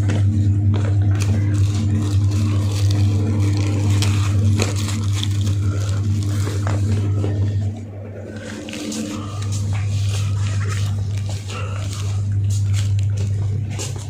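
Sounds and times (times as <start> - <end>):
crackling handling noise: 0.0 - 14.0
low electrical hum: 0.0 - 14.0.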